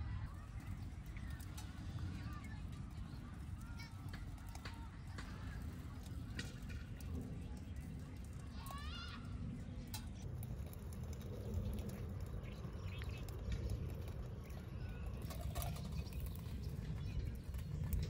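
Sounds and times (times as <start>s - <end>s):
low steady rumble: 0.0s - 18.0s
wood fire crackling: 0.4s - 18.0s.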